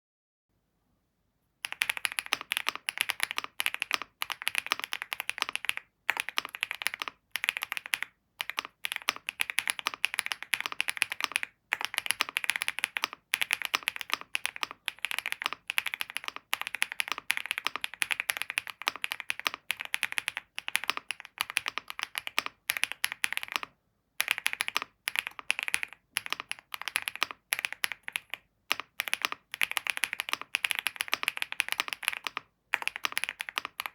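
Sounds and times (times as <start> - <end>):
mechanical keyboard typing: 1.6 - 33.9.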